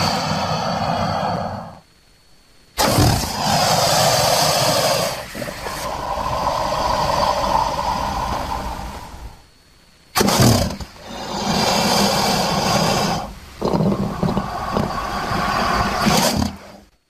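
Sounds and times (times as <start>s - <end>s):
crocodile growling: 0.0s - 1.8s, 2.8s - 9.4s, 10.2s - 16.9s.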